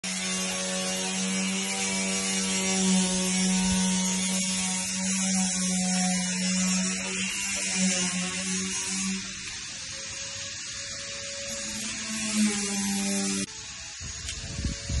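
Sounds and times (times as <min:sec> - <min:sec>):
constant high hiss: 0:02.0 - 0:15.0.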